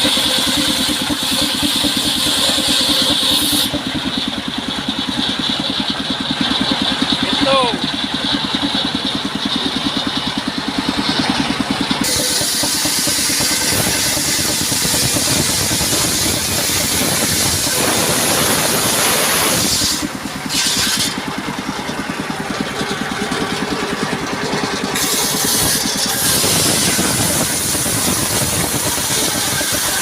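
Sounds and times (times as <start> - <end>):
engine beat: 0.0 - 30.0
saw blade cutting timber: 0.0 - 30.0.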